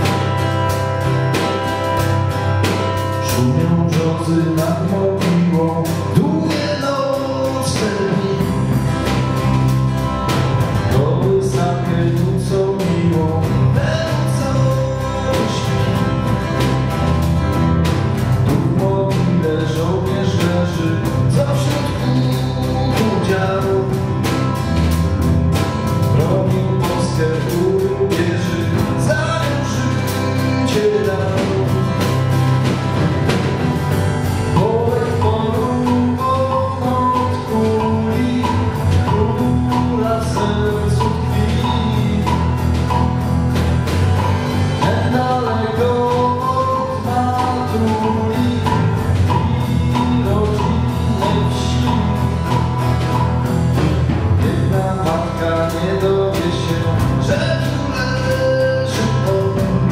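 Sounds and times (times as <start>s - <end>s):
acoustic guitar: 0.0s - 59.9s
bass guitar: 0.0s - 59.9s
drum kit: 0.0s - 59.9s.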